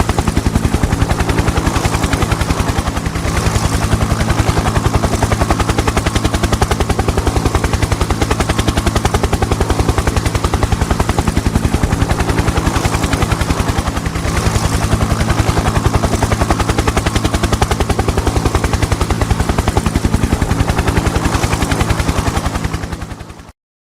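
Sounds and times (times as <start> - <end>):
engine hum: 0.0 - 23.0
helicopter rotor blades chopping: 0.0 - 23.5.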